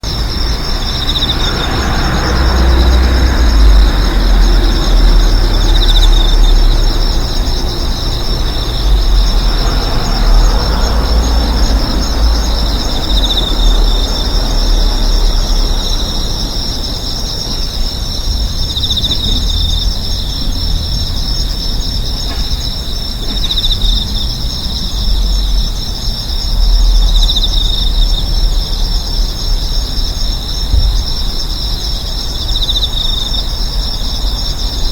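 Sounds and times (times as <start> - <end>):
traffic rumble: 0.0 - 34.9
vehicles passing: 0.0 - 34.9.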